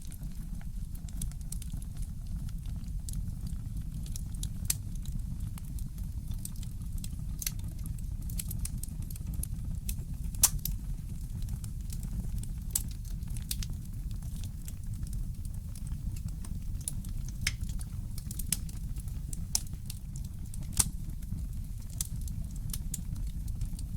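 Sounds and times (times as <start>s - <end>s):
fireplace crackling: 0.2s - 2.9s, 3.6s - 23.9s.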